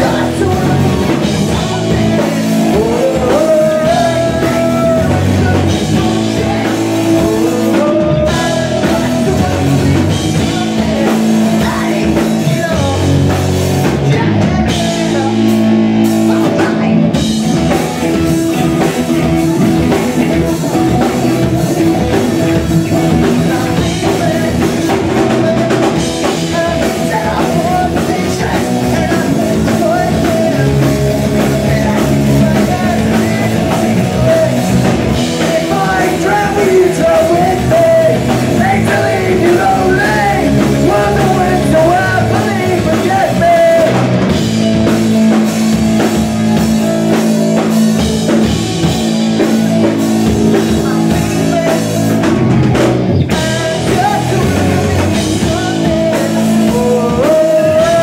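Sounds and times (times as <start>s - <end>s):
bass guitar: 0.0s - 58.0s
distorted electric guitars: 0.0s - 58.0s
drum kit: 0.0s - 58.0s
person singing: 0.0s - 58.0s.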